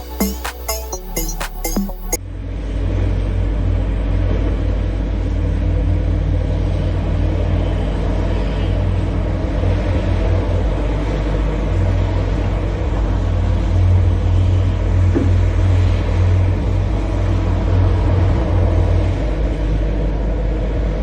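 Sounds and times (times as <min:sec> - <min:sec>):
excavator engine drone: 0:00.0 - 0:21.0.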